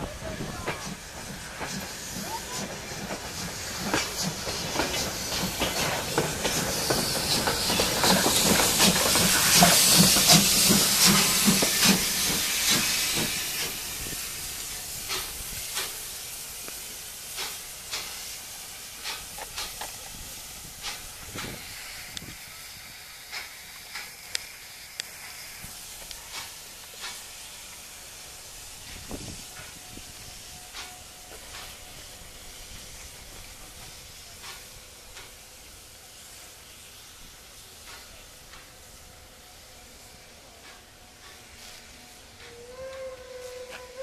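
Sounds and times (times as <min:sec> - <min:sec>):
steam locomotive hissing steam: 0:00.0 - 0:44.0.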